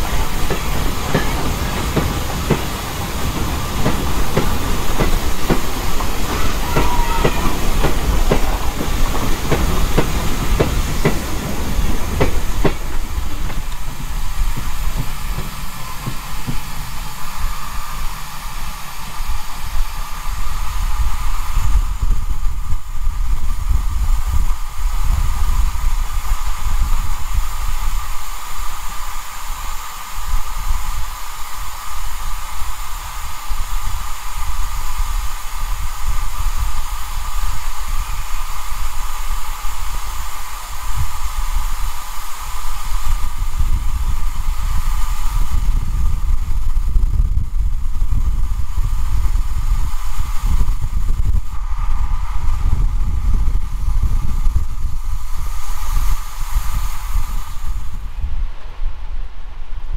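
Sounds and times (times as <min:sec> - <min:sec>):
steam locomotive hiss and rumble: 0:00.0 - 0:59.9.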